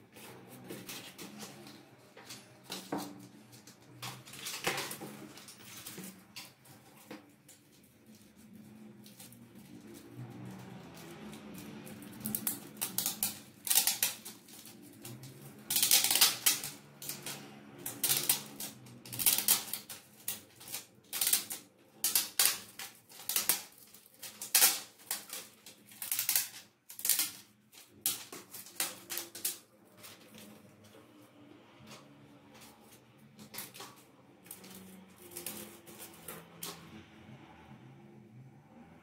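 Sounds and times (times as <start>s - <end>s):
plastic bag crinkling: 0.0s - 36.9s.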